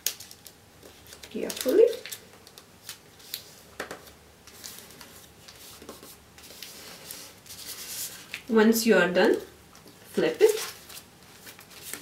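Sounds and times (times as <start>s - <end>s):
paper being folded and creased: 0.0s - 8.4s, 9.8s - 12.0s.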